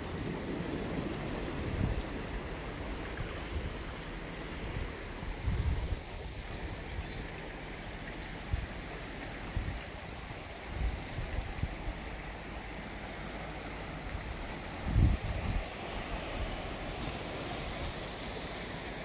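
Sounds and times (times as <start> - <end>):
stream rushing over rocks: 0.0 - 19.0
surf washing: 0.0 - 19.0.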